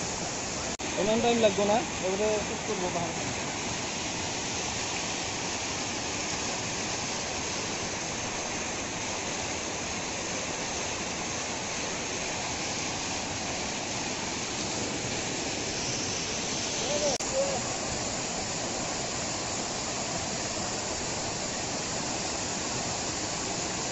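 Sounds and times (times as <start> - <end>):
waterfall splashing onto rocks: 0.0 - 23.9.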